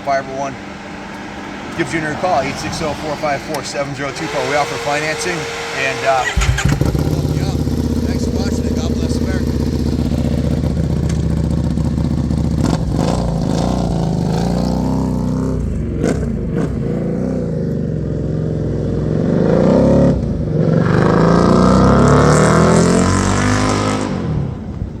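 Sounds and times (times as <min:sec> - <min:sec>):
motorcycle engine revving: 0:01.4 - 0:25.0.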